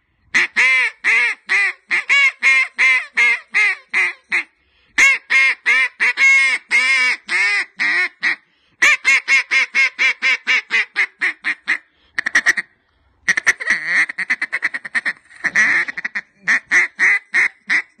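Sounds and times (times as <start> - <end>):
duck call quacks: 0.3 - 18.0.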